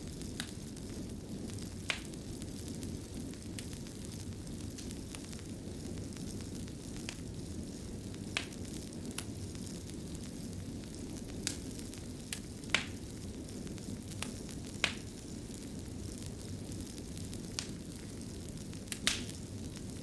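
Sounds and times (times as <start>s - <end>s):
fire crackles and pops: 0.0s - 20.0s
fire rumbling: 0.0s - 20.0s.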